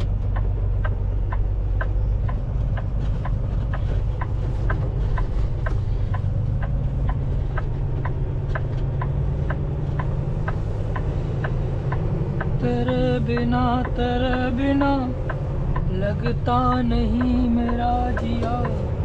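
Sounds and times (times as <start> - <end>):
turn signal ticking: 0.0 - 19.0
vehicle engine drone: 0.0 - 19.0.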